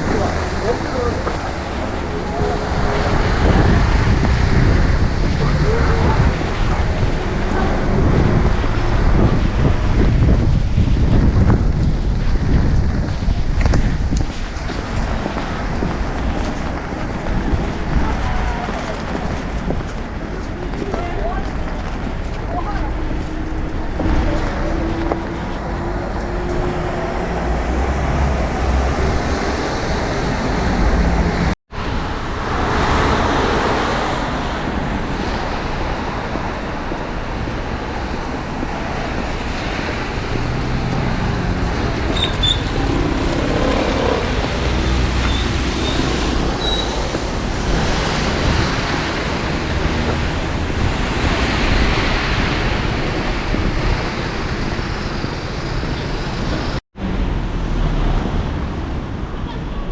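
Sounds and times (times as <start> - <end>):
city road traffic: 0.0 - 59.9
vehicles passing: 0.0 - 59.9.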